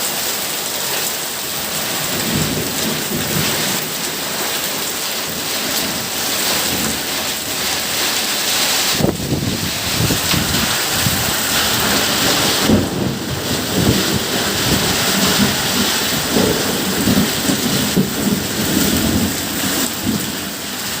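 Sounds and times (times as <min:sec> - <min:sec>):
heavy rain pouring: 0:00.0 - 0:21.0
rolling thunder: 0:01.7 - 0:08.0, 0:08.8 - 0:21.0.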